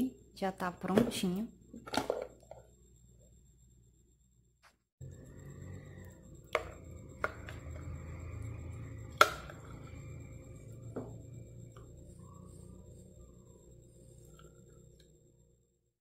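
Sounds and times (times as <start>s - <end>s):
low hum: 0.0s - 15.9s.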